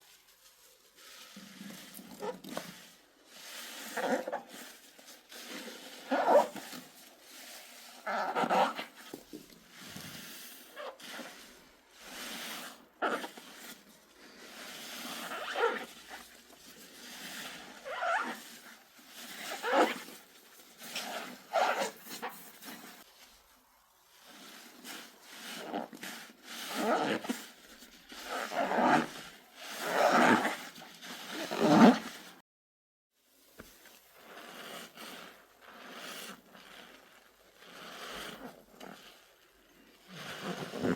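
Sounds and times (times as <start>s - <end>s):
soapy foam squeaking: 0.2s - 23.6s, 24.2s - 32.2s, 34.2s - 40.9s.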